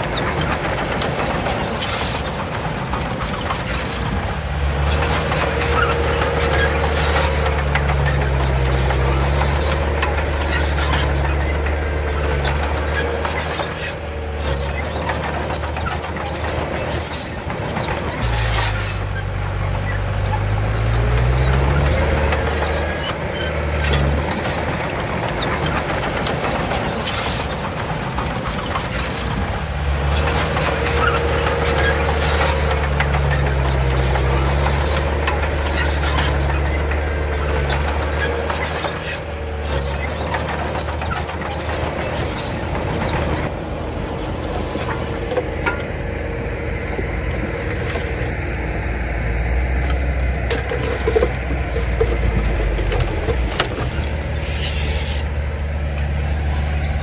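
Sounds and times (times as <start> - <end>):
bulldozer diesel engine running: 0.0 - 57.0
metallic squealing and clatter: 0.0 - 57.0.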